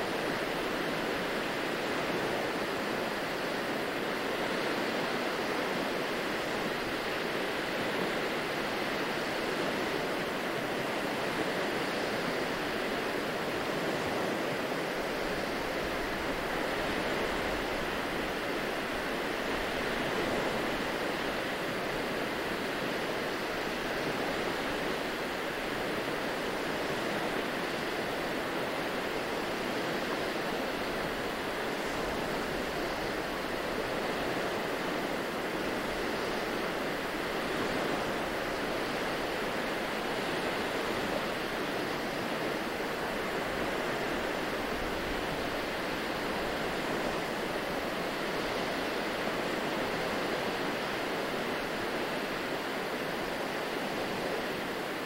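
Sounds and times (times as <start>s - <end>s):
small waves washing on beach: 0.0s - 55.0s.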